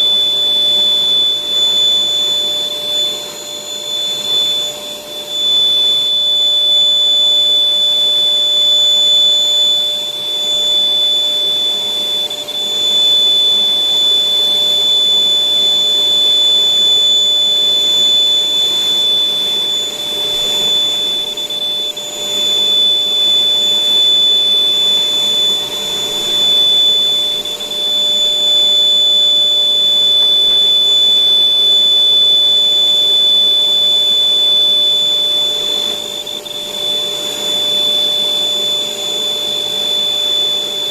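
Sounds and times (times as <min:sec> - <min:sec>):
electric air blower whining: 0:00.0 - 0:40.9.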